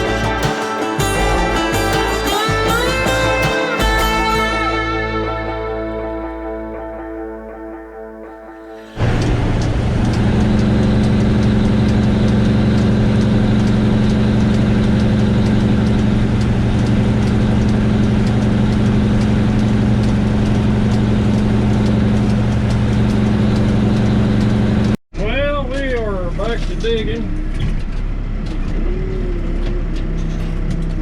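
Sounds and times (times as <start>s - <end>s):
diesel engine running: 0.0s - 7.0s, 8.8s - 31.0s.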